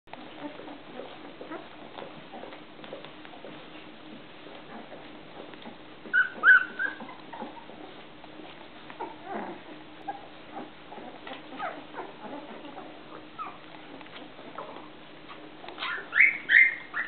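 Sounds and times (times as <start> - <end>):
puppies squeaking and whimpering: 0.2 - 3.8, 4.6 - 17.0.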